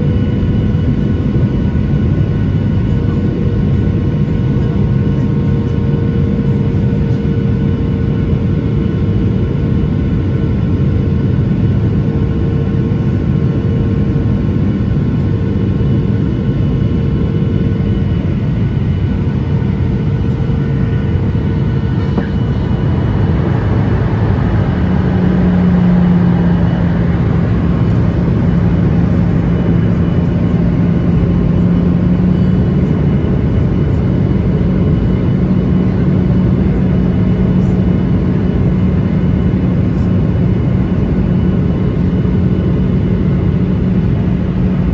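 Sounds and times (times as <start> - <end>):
airliner cabin engine rumble: 0.0 - 44.9
constant hums: 0.0 - 44.9.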